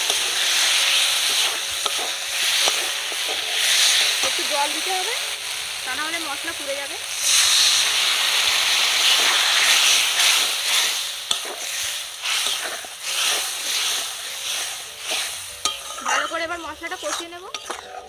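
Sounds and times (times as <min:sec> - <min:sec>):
loud sizzle of water in hot pan: 0:00.0 - 0:18.0.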